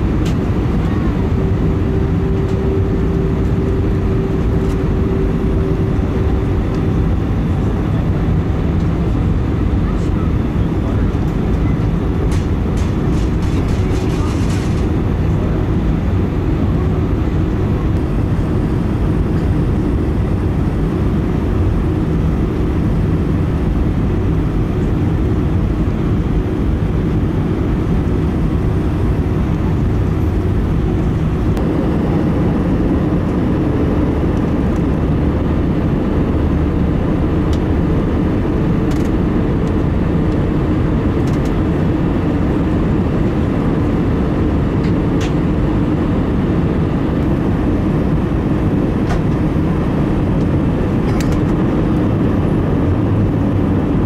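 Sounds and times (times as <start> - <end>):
jet engine and airflow rush: 0.0 - 54.0.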